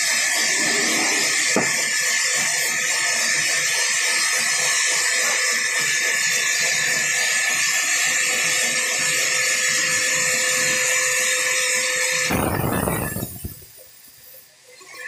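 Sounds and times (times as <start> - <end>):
band saw cutting wood: 0.0 - 13.7.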